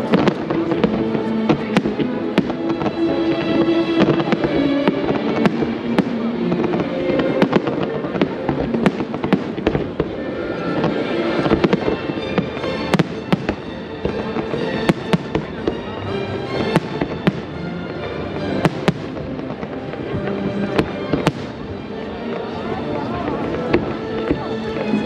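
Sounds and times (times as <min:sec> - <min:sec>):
fireworks bursting: 0:00.0 - 0:25.0
music playing: 0:00.0 - 0:25.0.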